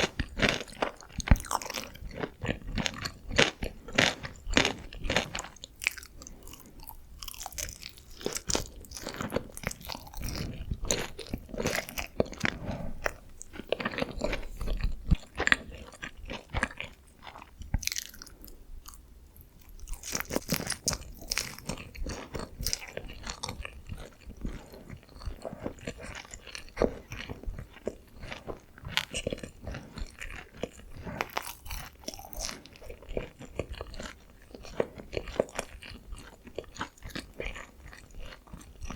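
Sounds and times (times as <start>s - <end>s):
chewing crunchy fried chicken: 0.0s - 38.9s.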